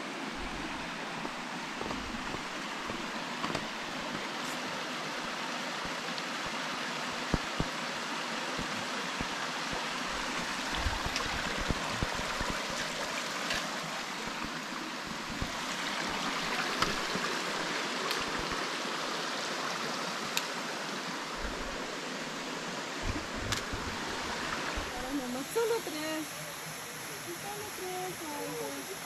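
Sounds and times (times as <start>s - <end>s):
creek rushing over rocks: 0.0s - 29.0s.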